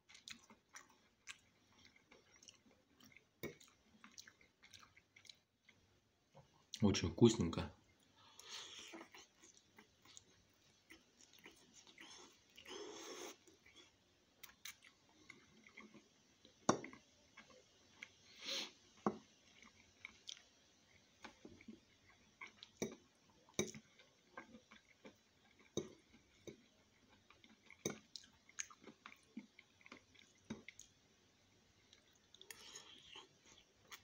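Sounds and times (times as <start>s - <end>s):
man chewing food: 0.0s - 6.8s, 7.9s - 34.0s.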